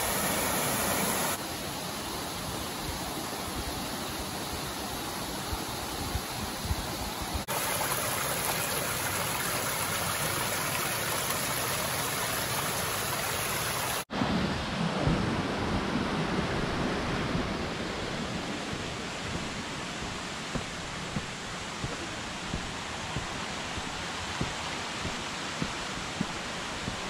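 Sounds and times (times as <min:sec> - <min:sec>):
stream running over rocks: 0:00.0 - 0:14.1, 0:18.7 - 0:27.0.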